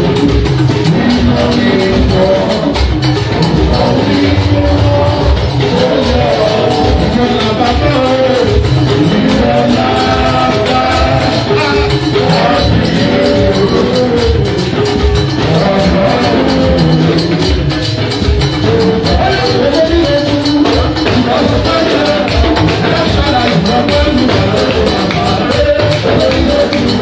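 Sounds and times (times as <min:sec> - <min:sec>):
backing music with steady beat: 0:00.0 - 0:27.0
man singing into a microphone: 0:00.0 - 0:27.0.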